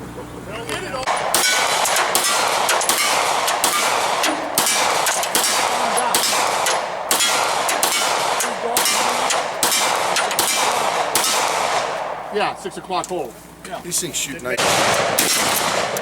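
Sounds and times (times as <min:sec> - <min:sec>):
rapid gunshots: 0:01.1 - 0:12.5, 0:14.6 - 0:16.0.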